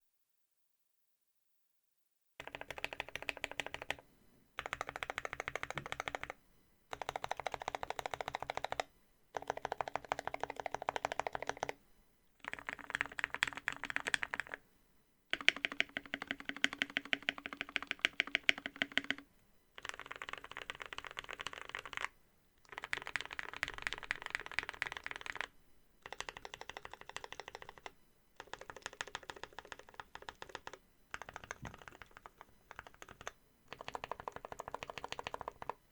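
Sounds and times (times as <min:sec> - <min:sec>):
typing on a mechanical keyboard: 0:02.4 - 0:04.0, 0:04.6 - 0:11.8, 0:12.4 - 0:14.6, 0:15.3 - 0:19.2, 0:19.8 - 0:35.8.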